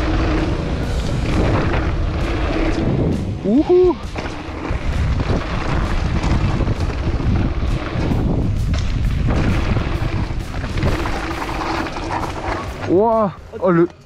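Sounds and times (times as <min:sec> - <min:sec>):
bike rattles and thuds: 0:00.0 - 0:13.5
wind buffeting microphone: 0:00.0 - 0:13.5.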